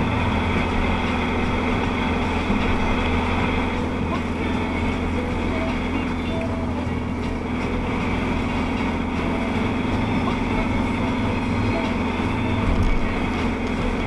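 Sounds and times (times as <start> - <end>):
engine and drivetrain drone: 0.0 - 14.0
tyres hissing on wet road: 0.0 - 14.0.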